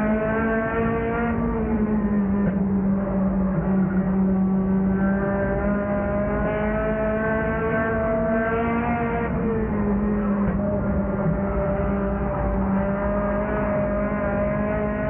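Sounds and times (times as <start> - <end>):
race car engine at speed: 0.0 - 15.0.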